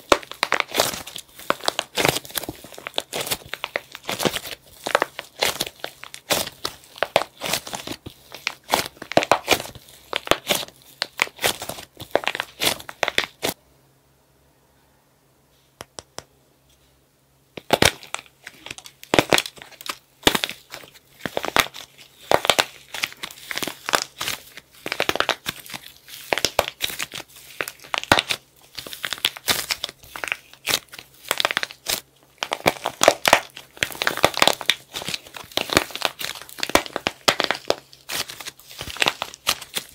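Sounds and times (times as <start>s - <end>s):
dried clay crackling and crunching: 0.0s - 13.6s, 17.6s - 39.9s.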